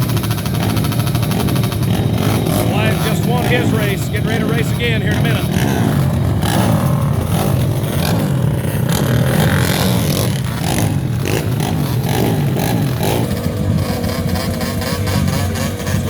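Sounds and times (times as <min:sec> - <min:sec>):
atv engines revving: 0:00.0 - 0:16.0.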